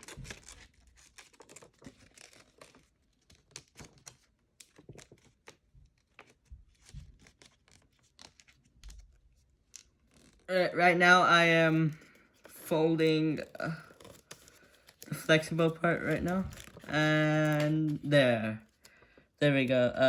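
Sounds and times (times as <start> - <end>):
paper rustling and crinkling: 0.0 - 10.5, 11.8 - 19.6.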